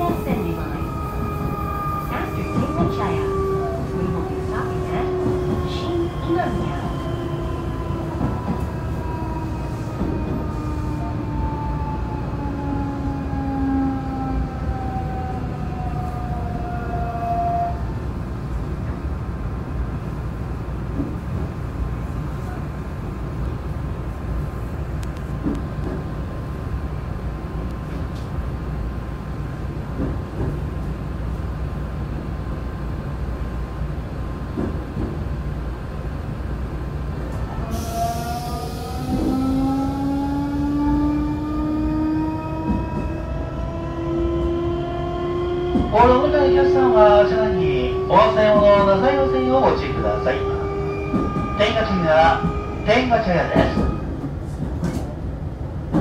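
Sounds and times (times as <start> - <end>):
wheel and rail rumble: 0.0 - 56.0.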